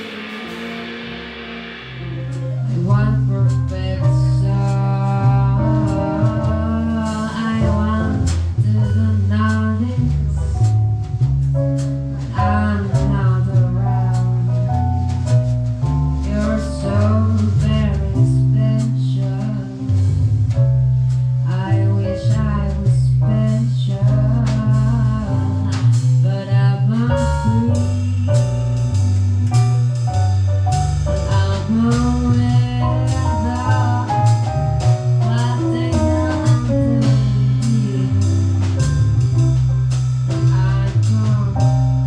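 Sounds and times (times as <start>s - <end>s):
jazz quartet music: 0.0s - 42.0s.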